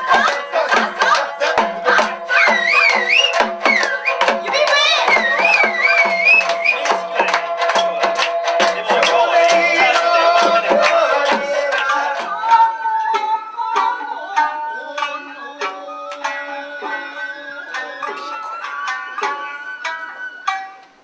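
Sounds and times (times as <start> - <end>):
plucked melody: 0.0 - 21.0.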